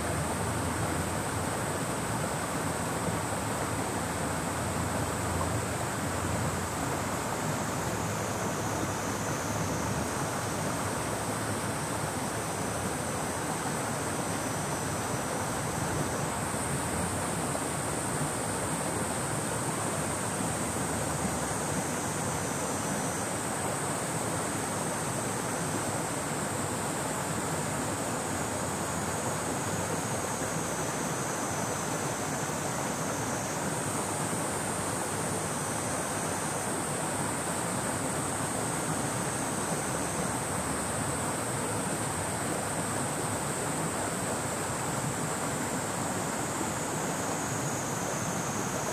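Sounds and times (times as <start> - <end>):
cicadas droning: 0.0 - 48.9
lower insect drone: 0.0 - 48.9
river water rushing: 0.0 - 48.9.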